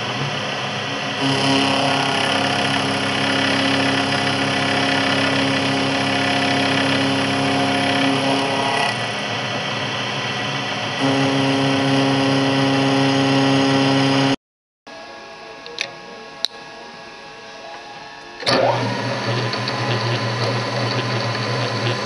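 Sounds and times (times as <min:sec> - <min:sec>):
milling machine humming: 0:00.0 - 0:22.0.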